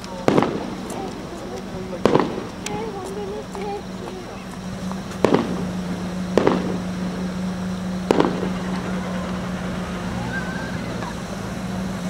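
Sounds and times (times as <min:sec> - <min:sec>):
car interior hum: 0:00.0 - 0:12.0
firework bangs: 0:00.0 - 0:12.0.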